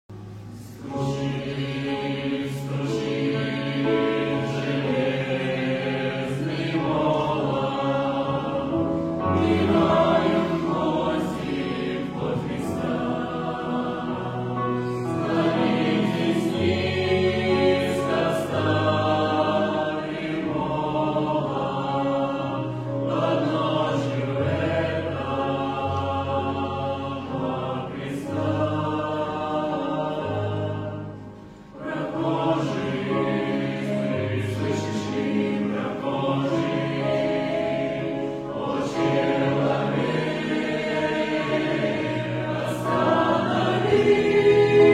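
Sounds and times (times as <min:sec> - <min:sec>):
choir singing sustained chords: 0:00.1 - 0:44.9.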